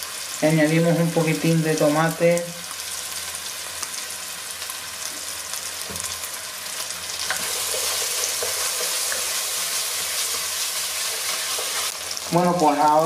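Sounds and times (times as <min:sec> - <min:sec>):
rice sizzling in a pot: 0:00.0 - 0:13.0.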